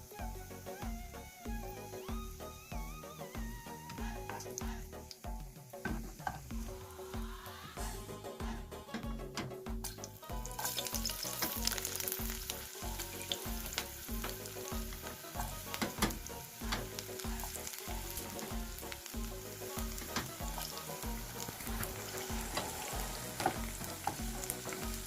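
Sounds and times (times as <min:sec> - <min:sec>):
background music with low beat: 0:00.0 - 0:25.0
fat sizzling in a pan: 0:00.0 - 0:25.0.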